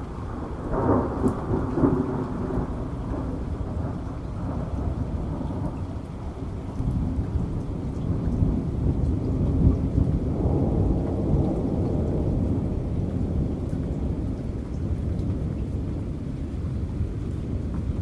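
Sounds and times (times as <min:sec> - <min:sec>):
heavy rain: 0:00.0 - 0:18.0
rumble of thunder: 0:00.0 - 0:18.0.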